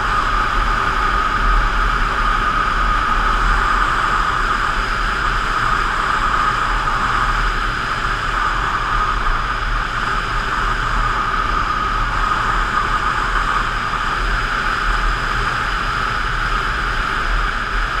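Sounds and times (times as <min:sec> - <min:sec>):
motorcycle engine drone: 0:00.0 - 0:18.0
wind noise: 0:00.0 - 0:18.0.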